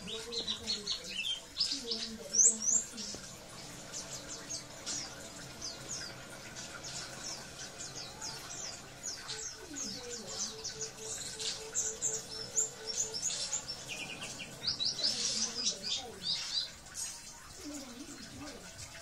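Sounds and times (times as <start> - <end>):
small bird chirping: 0.0 - 18.5.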